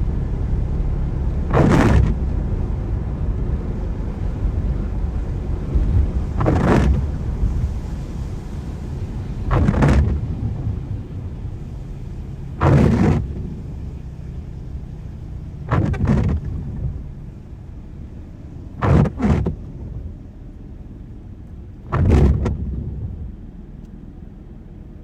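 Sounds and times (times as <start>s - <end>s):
car road rumble in rain: 0.0s - 25.0s
windscreen wipers swishing: 0.0s - 25.0s.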